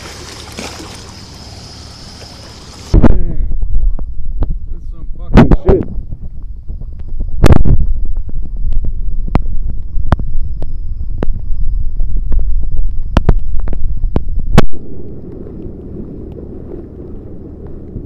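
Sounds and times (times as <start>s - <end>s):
steady rushing noise: 1.1s - 18.0s
wind buffeting microphone: 2.2s - 18.0s.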